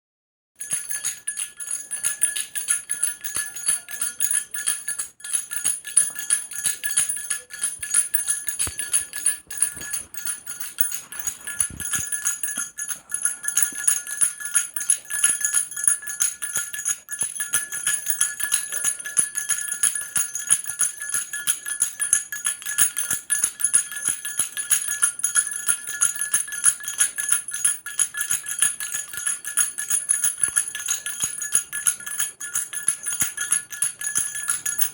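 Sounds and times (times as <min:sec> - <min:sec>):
baby rattle bells jingling: 0:00.6 - 0:34.9.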